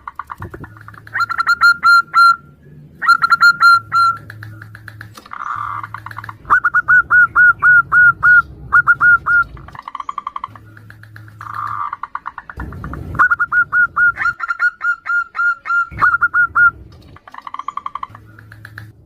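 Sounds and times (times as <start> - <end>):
zebra doves cooing: 0.0 - 19.0.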